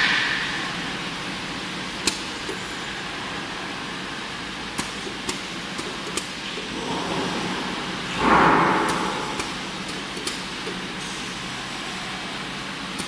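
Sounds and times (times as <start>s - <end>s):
filling machine humming: 0.0s - 13.0s.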